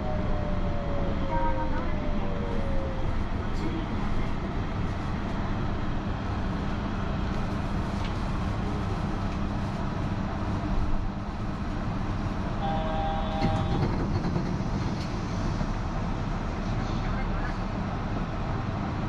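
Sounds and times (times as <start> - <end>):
train car rumble and hum: 0.0 - 19.0.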